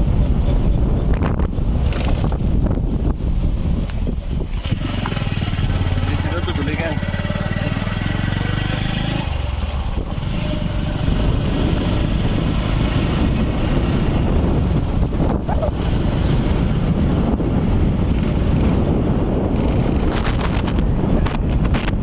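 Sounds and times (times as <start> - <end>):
wind buffeting microphone: 0.0 - 22.0
motorcycle engine: 4.2 - 22.0.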